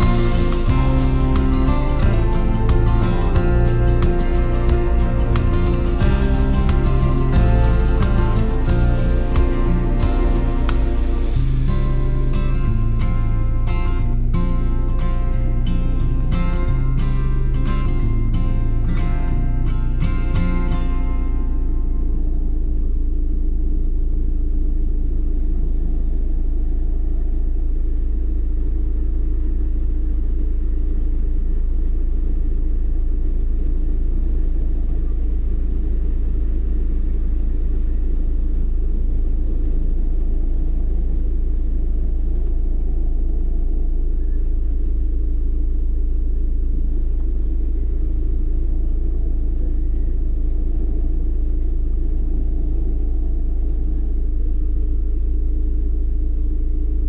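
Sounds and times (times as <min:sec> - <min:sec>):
car road and engine noise: 0:00.0 - 0:57.0
faint steady hum: 0:00.0 - 0:57.0.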